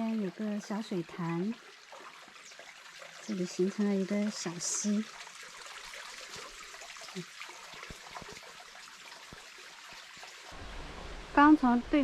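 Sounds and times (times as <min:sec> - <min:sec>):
stream trickling over rocks: 0:00.0 - 0:12.0.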